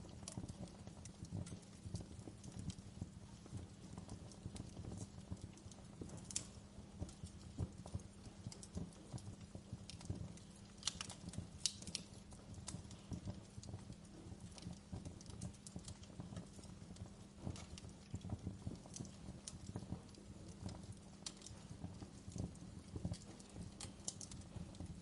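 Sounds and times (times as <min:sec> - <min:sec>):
low steady rumble: 0:00.0 - 0:25.0
wood fire crackling: 0:00.0 - 0:25.0.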